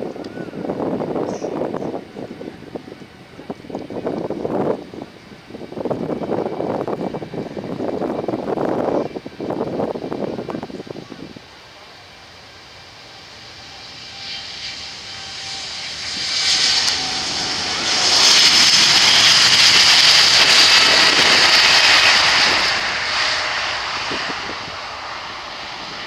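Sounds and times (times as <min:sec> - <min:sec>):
jet airliner passing by: 0:00.0 - 0:26.0.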